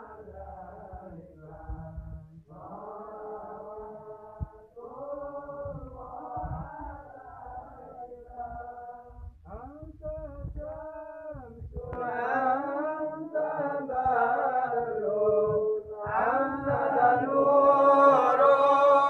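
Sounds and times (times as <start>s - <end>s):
men chanting in unison: 0.0s - 9.7s, 10.5s - 19.0s.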